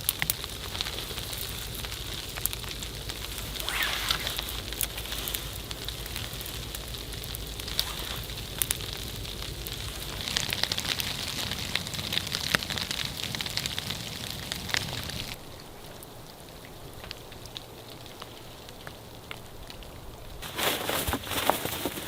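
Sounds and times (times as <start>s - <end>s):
rain hissing: 0.0s - 20.4s
campfire crackling and popping: 0.0s - 20.5s.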